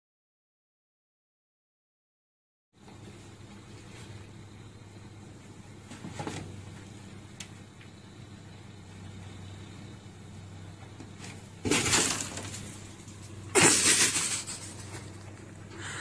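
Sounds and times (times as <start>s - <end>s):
low steady hum: 2.8s - 16.0s.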